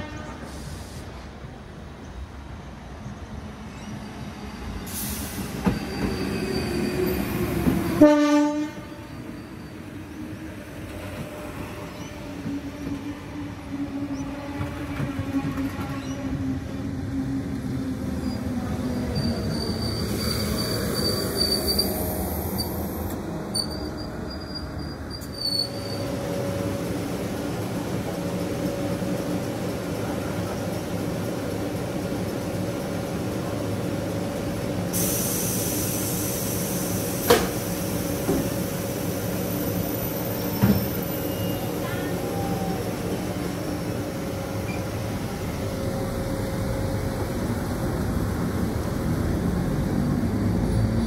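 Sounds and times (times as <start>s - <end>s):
electric train rumble and hum: 0.0s - 51.0s.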